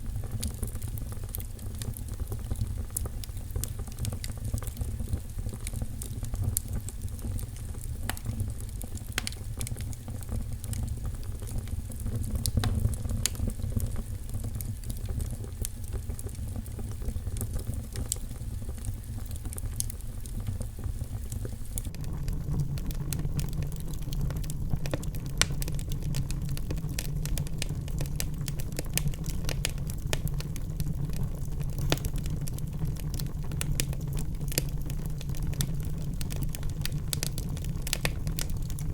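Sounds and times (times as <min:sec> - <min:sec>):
fire pops and snaps: 0:00.0 - 0:38.9
low rumble of flames: 0:00.0 - 0:38.9.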